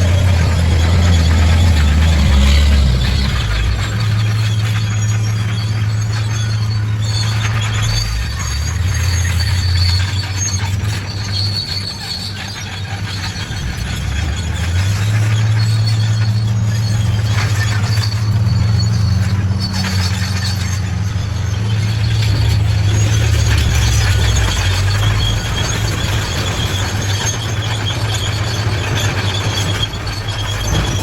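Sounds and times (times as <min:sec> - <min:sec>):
bulldozer diesel engine drone: 0:00.0 - 0:31.0
high metallic squeal: 0:00.0 - 0:31.0
metal clanks: 0:00.0 - 0:31.0.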